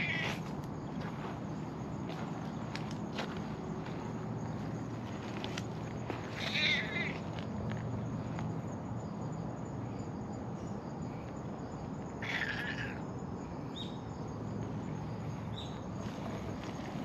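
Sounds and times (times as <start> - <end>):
insects hissing: 0.0 - 17.0.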